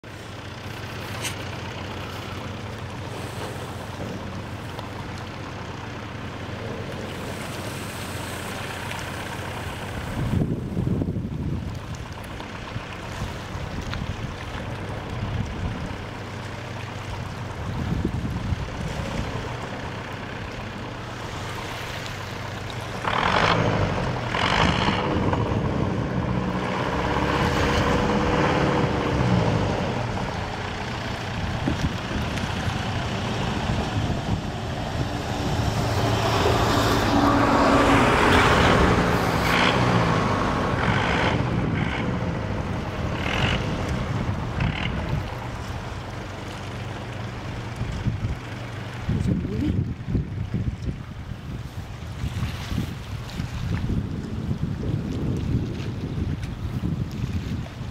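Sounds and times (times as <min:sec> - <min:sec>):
boat engine revving: 0:00.0 - 0:54.1
road traffic passing: 0:00.0 - 0:57.5.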